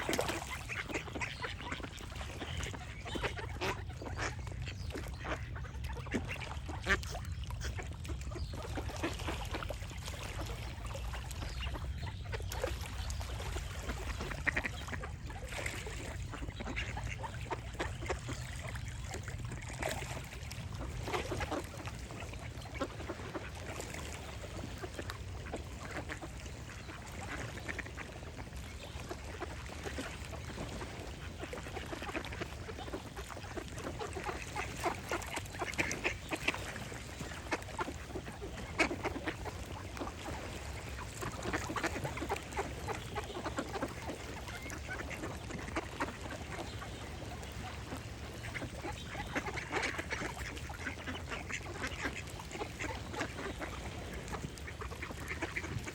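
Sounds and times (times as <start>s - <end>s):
ducks quacking: 0.0s - 55.9s.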